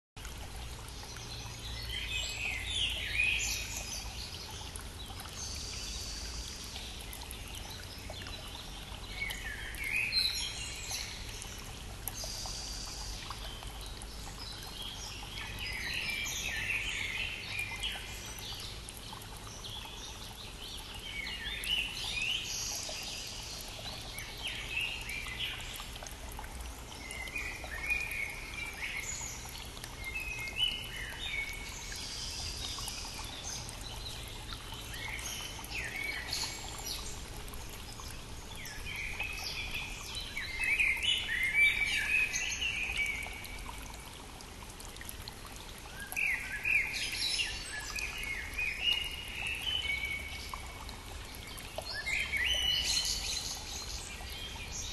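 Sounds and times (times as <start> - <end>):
stream flowing: 0.2 - 54.9
songbirds singing: 0.4 - 54.9.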